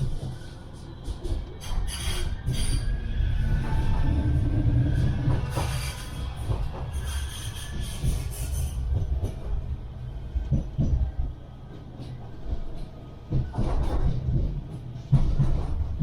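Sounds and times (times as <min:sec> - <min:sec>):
tram rumbling on rails: 0:00.0 - 0:16.0.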